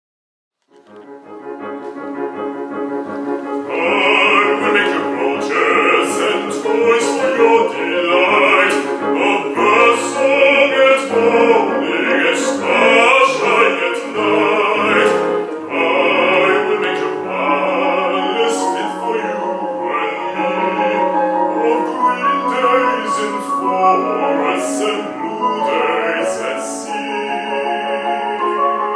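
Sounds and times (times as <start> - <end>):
instrumental accompaniment: 0.6 - 28.9
operatic bass voice singing: 3.7 - 27.9.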